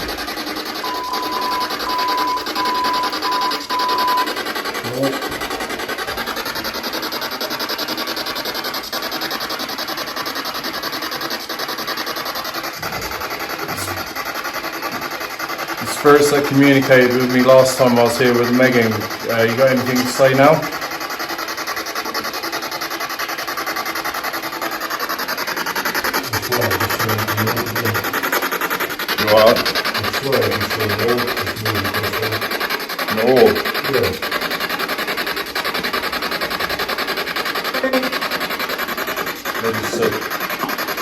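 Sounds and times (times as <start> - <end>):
pulsing radio static hiss: 0.0 - 41.0.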